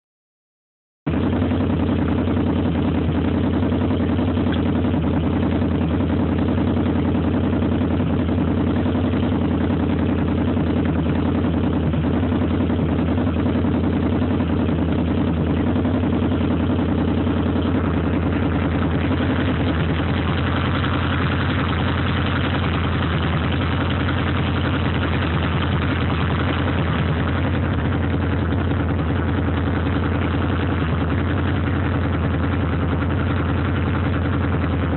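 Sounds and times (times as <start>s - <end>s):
motorcycle engine idling: 1.1s - 34.9s.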